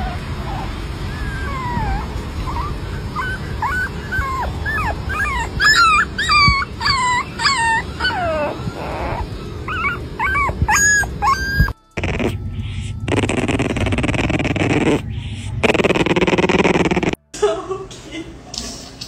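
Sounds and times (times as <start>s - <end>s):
puppy whimpering: 0.0s - 12.4s, 13.0s - 17.2s.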